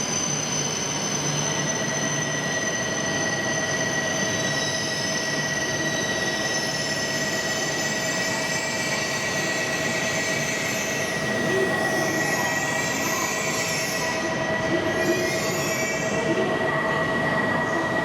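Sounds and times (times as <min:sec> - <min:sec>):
train mechanical noise with high tones: 0:00.0 - 0:18.0.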